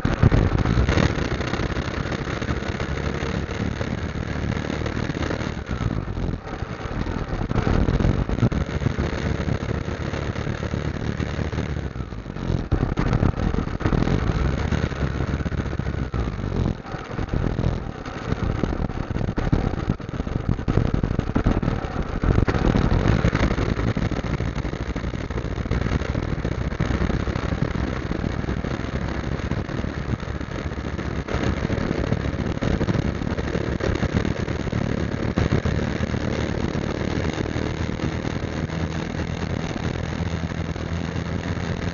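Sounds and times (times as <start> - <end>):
motorcycle engine droning: 0.0 - 41.9
rushing wind noise: 0.0 - 41.9.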